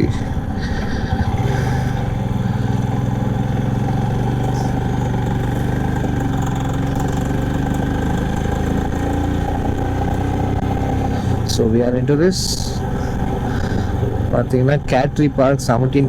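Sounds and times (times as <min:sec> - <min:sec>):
motorcycle engine running under load: 0:00.0 - 0:16.0.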